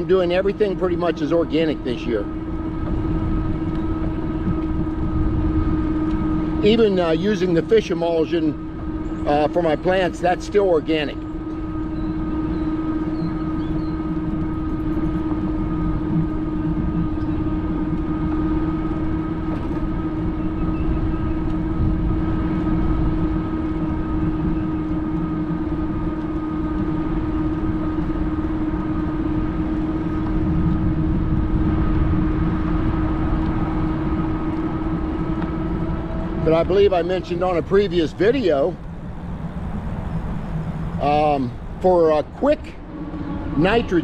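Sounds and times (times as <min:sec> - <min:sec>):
electric bike motor whine: 0:00.0 - 0:44.0
tyre and wind rumble: 0:00.0 - 0:44.0.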